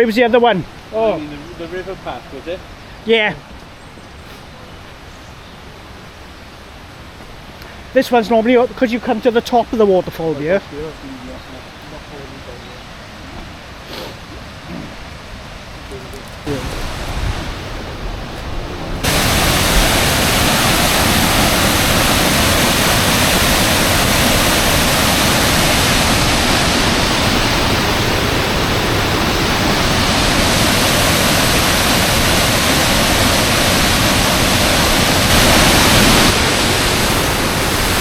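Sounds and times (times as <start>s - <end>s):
waterfall rushing: 0.0s - 3.5s, 4.4s - 38.0s.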